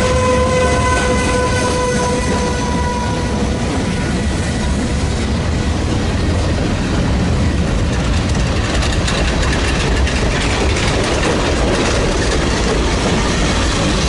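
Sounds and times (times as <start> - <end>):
diesel locomotive engine drone: 0.0 - 14.0
train cars rumbling: 0.0 - 14.0.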